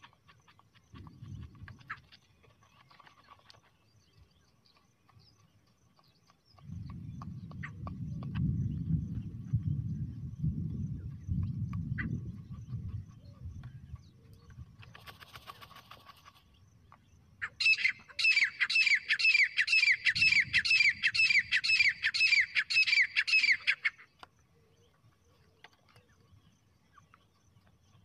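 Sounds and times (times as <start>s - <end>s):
recorded bird call: 0.0s - 28.0s.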